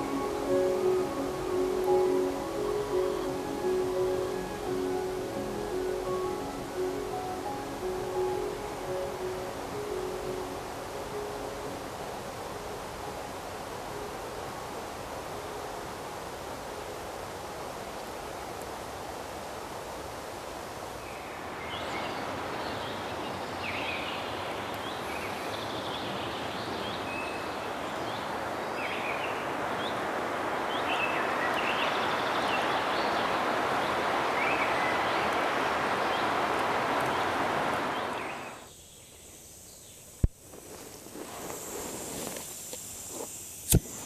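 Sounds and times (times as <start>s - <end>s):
wind through treetops: 0.0s - 44.0s.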